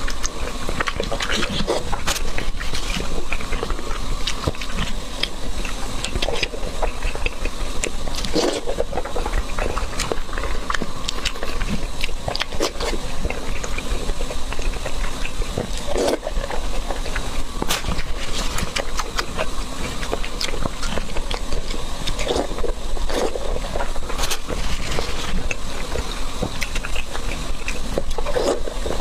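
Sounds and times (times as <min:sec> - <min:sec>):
crunching and chewing: 0:00.0 - 0:29.0
steady low hum: 0:00.0 - 0:29.0.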